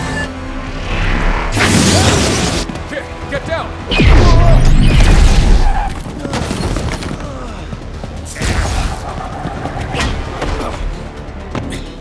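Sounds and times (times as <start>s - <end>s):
action music score: 0.0s - 12.0s.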